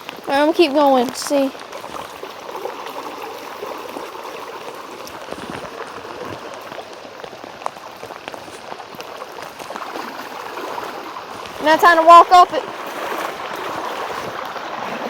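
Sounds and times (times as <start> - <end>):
floodwater rushing: 0.0 - 15.0
small splashes and drips: 0.0 - 15.0.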